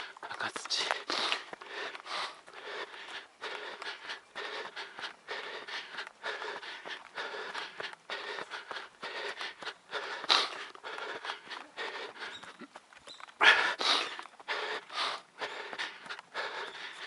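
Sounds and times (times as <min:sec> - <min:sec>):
person panting heavily: 0:00.0 - 0:17.0.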